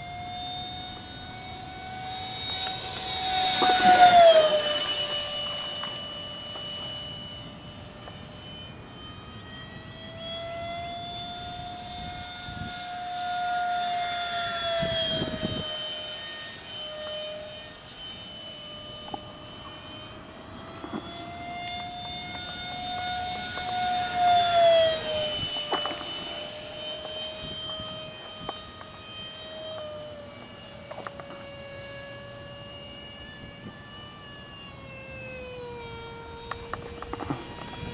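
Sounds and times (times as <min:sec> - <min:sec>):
model jet fan whining: 0:00.0 - 0:37.9.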